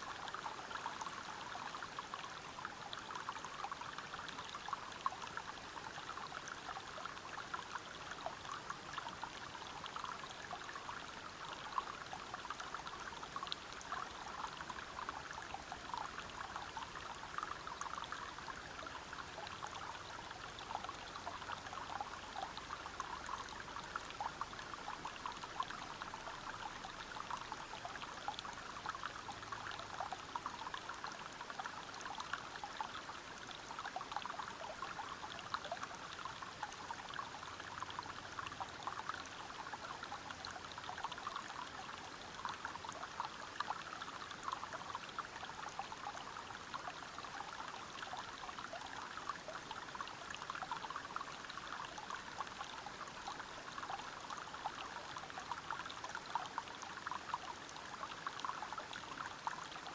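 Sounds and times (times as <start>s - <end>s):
river water running over rocks: 0.0s - 59.9s.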